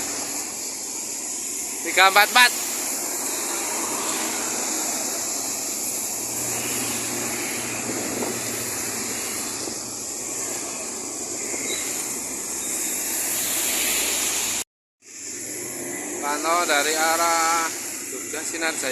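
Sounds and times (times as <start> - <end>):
traffic on wet road: 0.0 - 18.9
passing vehicle engine hum: 2.5 - 18.9.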